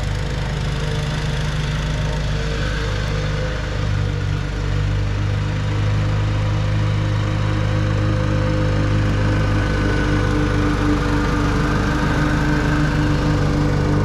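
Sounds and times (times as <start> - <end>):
riding mower engine running: 0.0 - 14.0.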